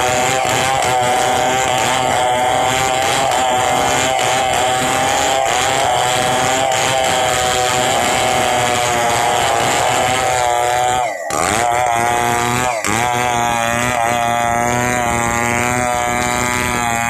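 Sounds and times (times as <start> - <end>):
chainsaw running at high revs: 0.0 - 17.0.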